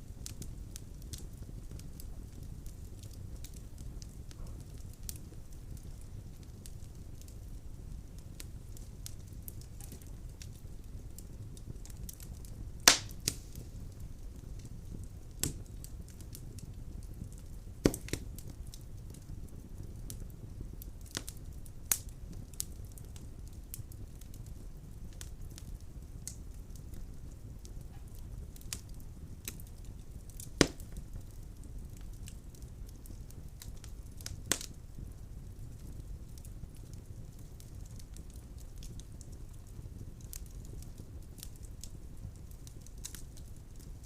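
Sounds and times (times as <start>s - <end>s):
firewood crackling in fireplace: 0.0s - 44.0s.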